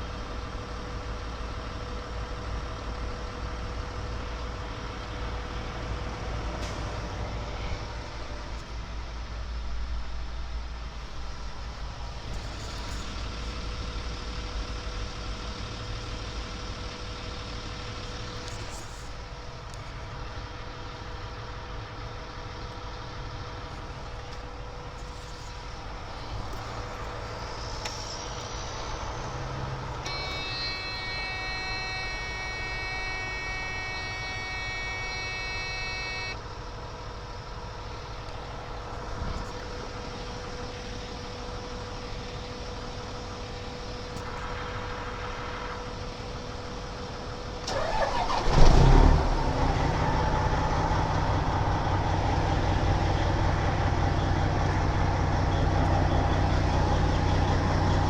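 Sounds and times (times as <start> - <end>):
truck diesel engine droning: 0.0 - 58.0.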